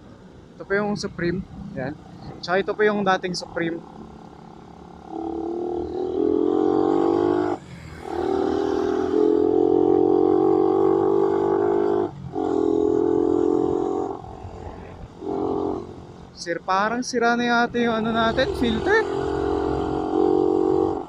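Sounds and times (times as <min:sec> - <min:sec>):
motorcycle engine under throttle: 0:00.7 - 0:21.0.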